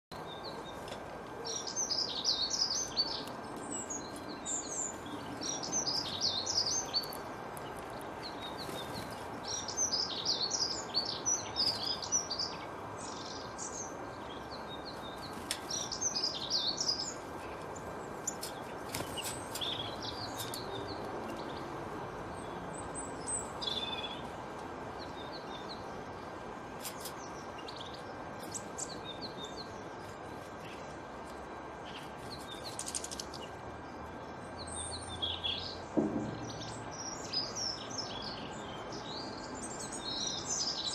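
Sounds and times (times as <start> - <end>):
songbird singing: 0.1 - 40.9.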